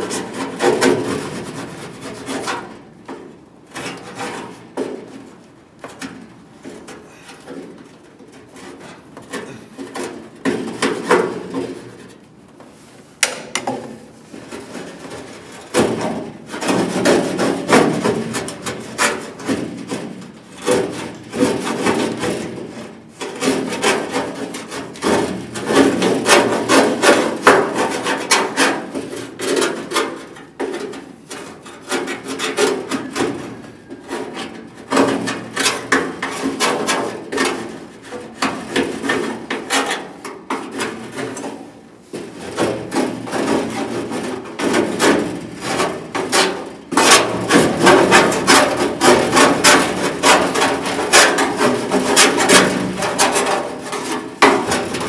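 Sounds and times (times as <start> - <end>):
hand scraping steel panel: 0.0 - 55.0.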